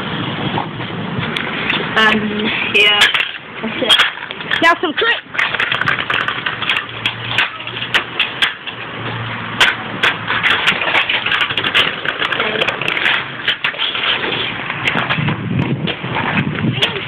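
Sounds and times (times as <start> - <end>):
scooter wheels rattling on paving: 0.0 - 17.0.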